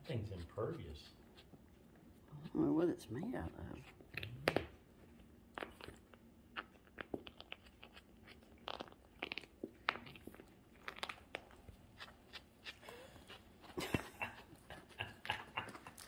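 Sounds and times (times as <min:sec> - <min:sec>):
cat chewing fabric toy: 0:00.0 - 0:02.7, 0:03.3 - 0:16.0.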